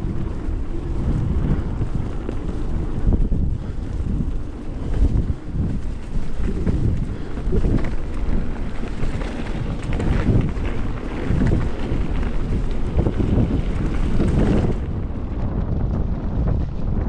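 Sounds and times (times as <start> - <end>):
bike knocks and rattles: 0.0 - 17.0
bike tyre noise: 0.0 - 17.0
wind buffeting microphone: 0.0 - 17.0.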